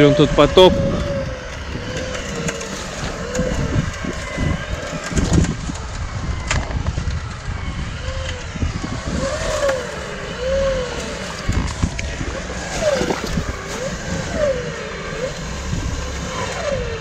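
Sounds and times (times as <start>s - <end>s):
rising and falling whines: 0.0s - 17.0s
vehicle engine and body rumble: 0.0s - 17.0s.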